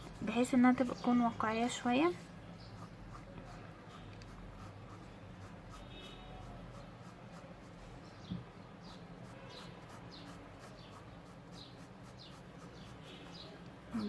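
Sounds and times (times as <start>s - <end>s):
pencil scratching on paper: 0.0s - 8.2s, 8.8s - 13.4s.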